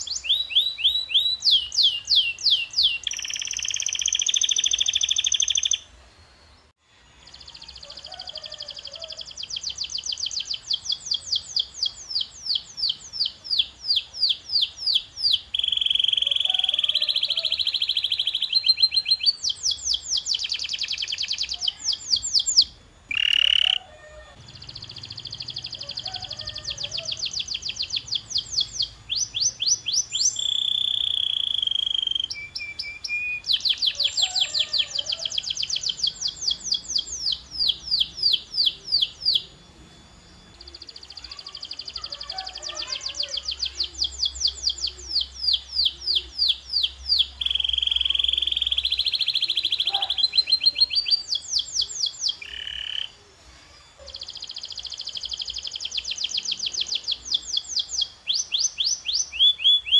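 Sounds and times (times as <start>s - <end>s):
canary singing: 0.0s - 6.0s, 7.2s - 59.9s.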